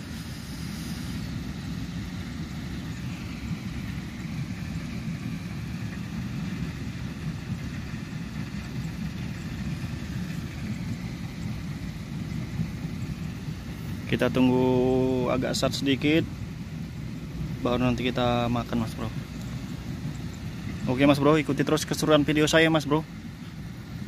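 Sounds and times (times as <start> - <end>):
gas stove burner flame rumbling: 0.0 - 24.0.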